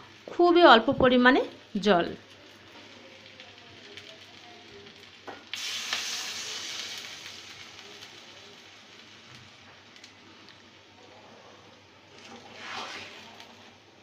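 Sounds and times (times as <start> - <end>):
loud sizzle in hot pan: 0.0 - 14.0.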